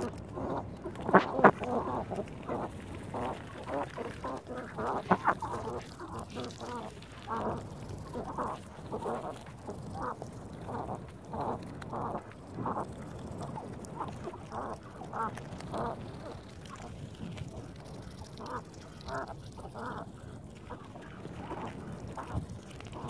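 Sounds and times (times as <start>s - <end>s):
ducks quacking: 0.0s - 12.8s, 13.9s - 16.9s, 17.9s - 23.0s.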